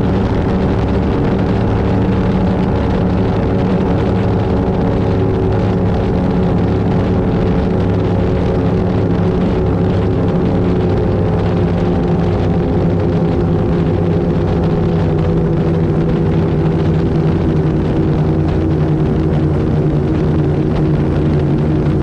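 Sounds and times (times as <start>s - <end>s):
boat engines droning: 0.0s - 22.0s.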